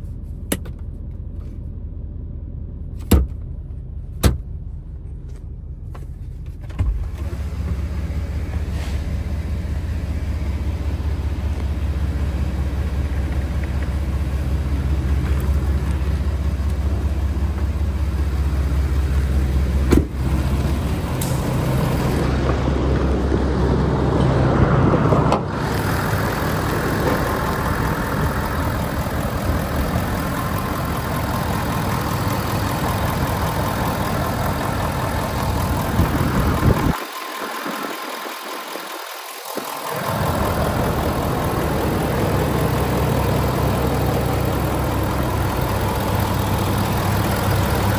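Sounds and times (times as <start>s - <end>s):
diesel engine idling: 7.2s - 47.9s.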